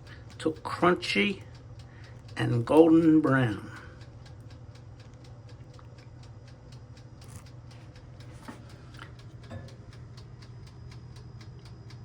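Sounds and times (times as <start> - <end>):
wind-up timer ticking: 0.0 - 12.0.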